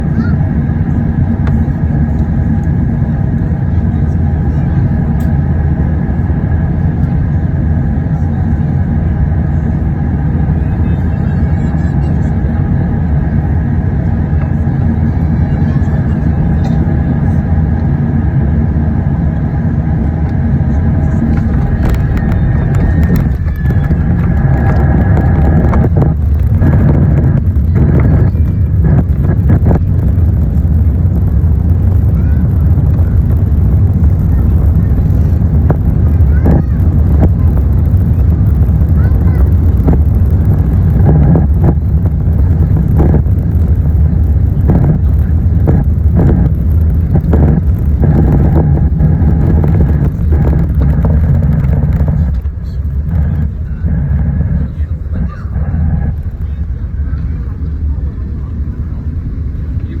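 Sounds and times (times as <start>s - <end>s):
airliner landing rumble: 0.0s - 60.0s.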